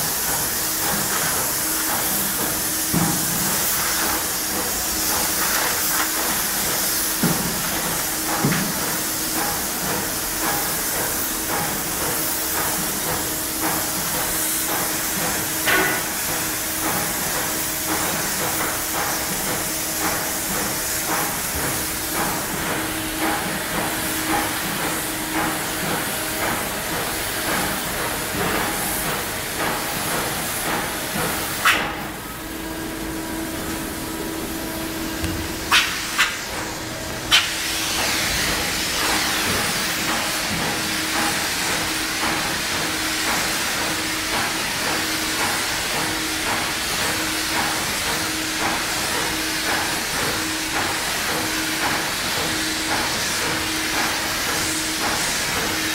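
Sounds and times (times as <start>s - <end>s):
spray gun hissing: 0.0s - 55.9s.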